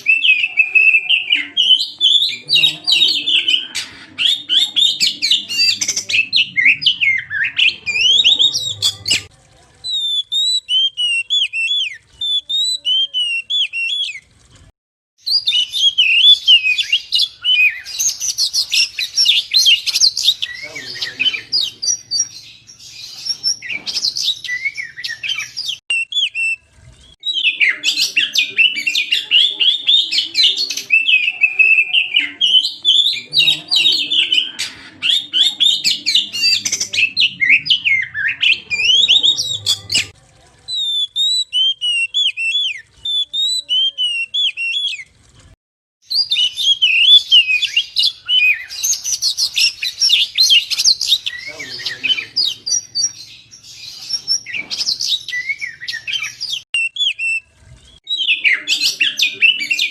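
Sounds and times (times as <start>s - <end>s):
songbird chirping and whistling: 0.0s - 9.3s, 9.9s - 14.3s, 15.2s - 45.1s, 46.1s - 59.9s.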